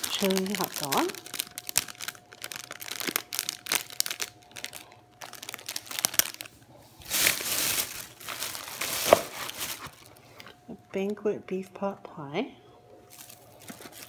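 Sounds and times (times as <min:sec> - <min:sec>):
plastic wrapper crinkling: 0:00.0 - 0:10.6, 0:13.1 - 0:14.0.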